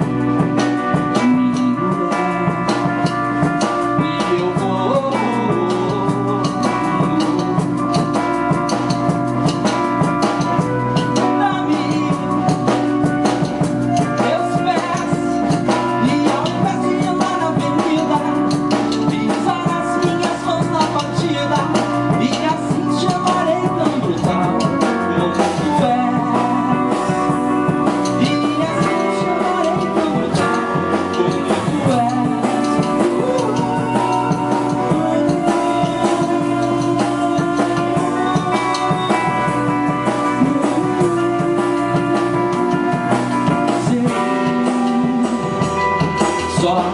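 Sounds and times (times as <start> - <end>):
bass guitar: 0.0 - 46.9
drum kit: 0.0 - 46.9
electric guitar: 0.0 - 46.9
keyboard: 0.0 - 46.9.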